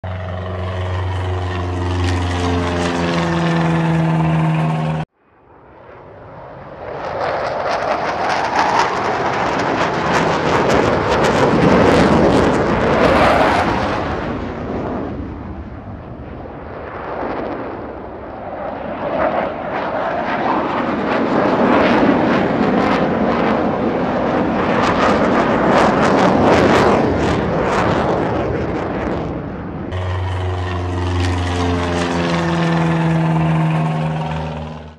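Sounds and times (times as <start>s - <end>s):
model aircraft engine humming: 0.0s - 5.1s, 5.7s - 34.9s
rough propeller engine: 0.0s - 5.1s, 7.8s - 34.9s.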